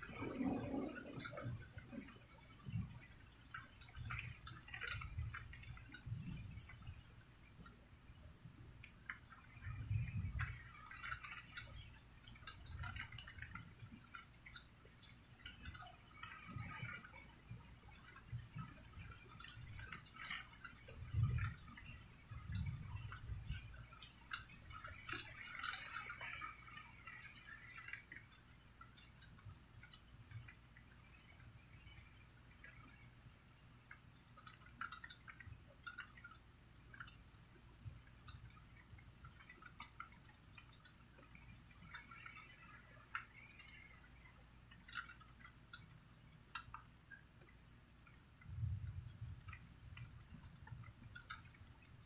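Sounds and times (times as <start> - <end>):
faint low rumbles: 0.0 - 52.0
rain dripping: 0.0 - 52.0.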